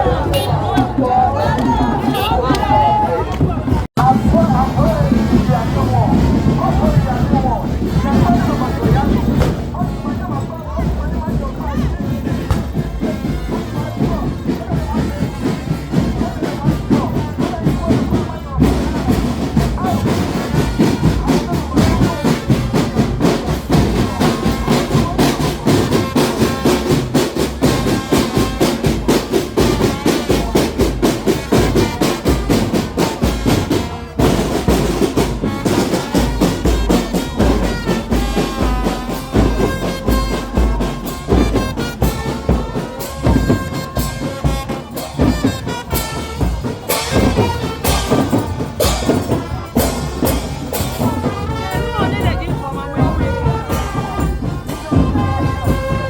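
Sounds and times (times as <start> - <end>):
brass band music with drums: 0.0 - 56.0.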